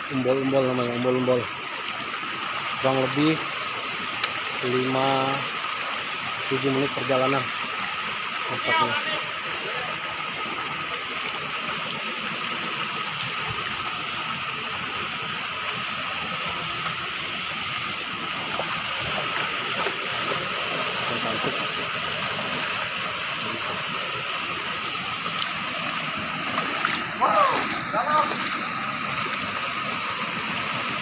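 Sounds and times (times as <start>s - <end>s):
waterfall pouring into a pool: 0.0s - 31.0s.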